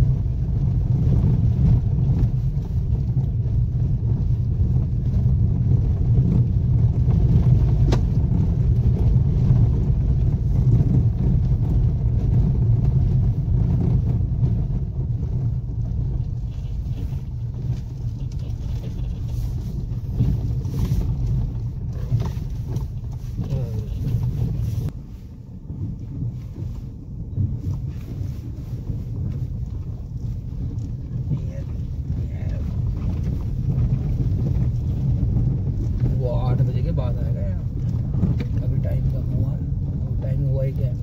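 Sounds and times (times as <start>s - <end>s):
car rumbling over dirt track: 0.0s - 41.0s.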